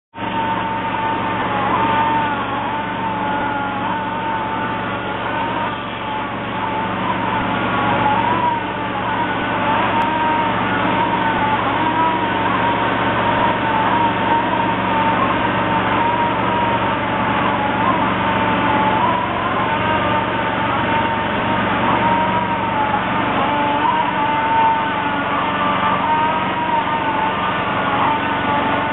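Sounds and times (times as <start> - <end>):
pump and engine running: 0.1 - 28.9.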